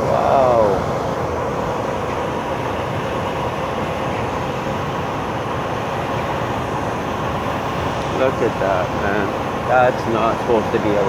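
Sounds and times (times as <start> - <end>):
faint steady hum: 0.0 - 11.0
vehicle road and engine noise: 0.0 - 11.0.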